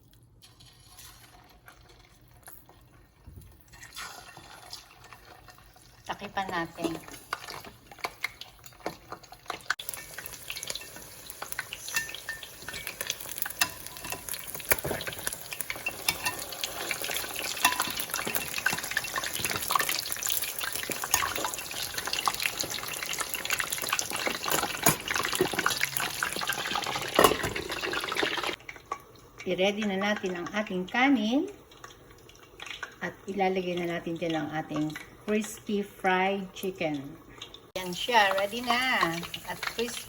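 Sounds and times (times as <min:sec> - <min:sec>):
chicken frying in hot oil: 0:00.0 - 0:40.0.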